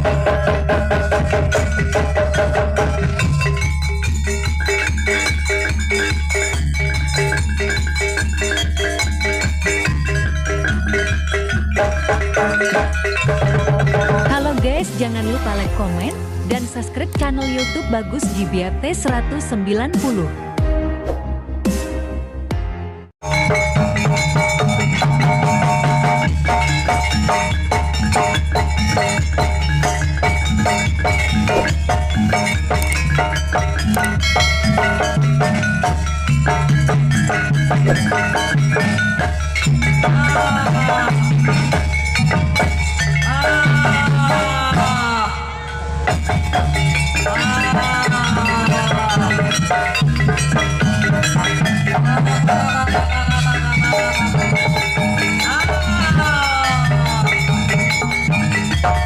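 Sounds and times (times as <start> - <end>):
pulsing drum beat: 0.0 - 20.9, 22.6 - 45.2, 46.1 - 59.0
metallophones struck in pattern: 0.0 - 21.0, 21.6 - 59.0.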